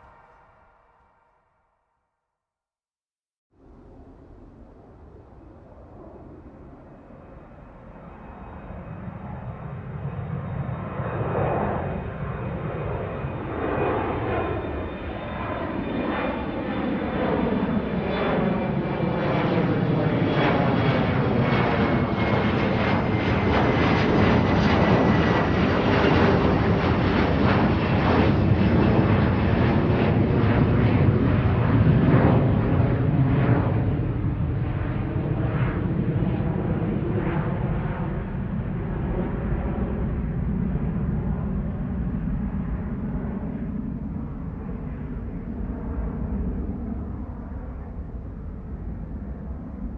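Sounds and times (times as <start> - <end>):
aircraft engine noise: 4.8 - 49.9.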